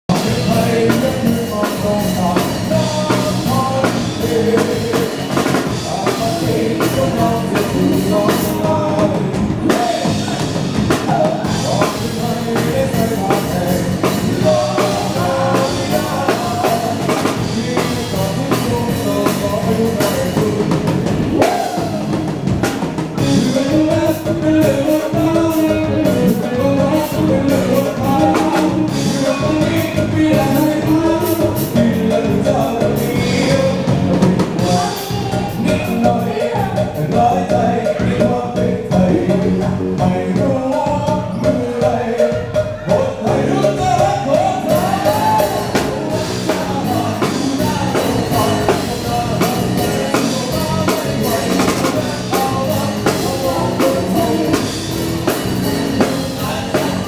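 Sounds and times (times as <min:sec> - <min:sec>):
band playing dance song: 0:00.1 - 0:57.0
person singing: 0:00.1 - 0:57.0.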